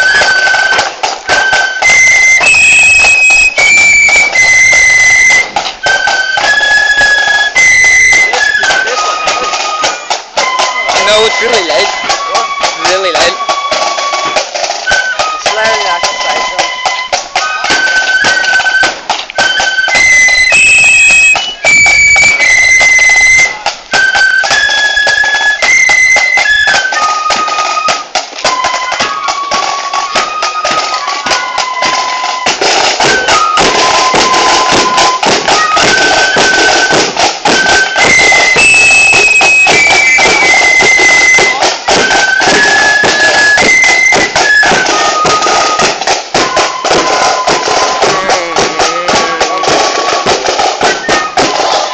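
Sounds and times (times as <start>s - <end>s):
fast drumming: 0.0s - 51.9s
flutes playing held notes: 0.0s - 51.9s.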